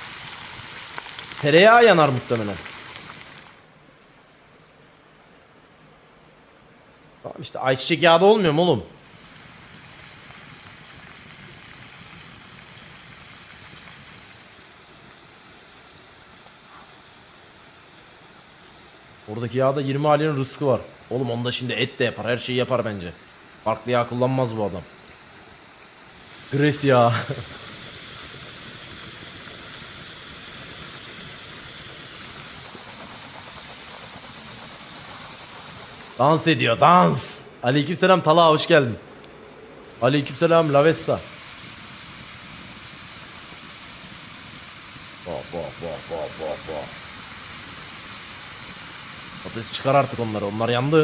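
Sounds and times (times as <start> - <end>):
food sizzling in hot oil: 0.0 - 3.6, 9.0 - 24.6, 25.2 - 37.4, 39.9 - 51.0.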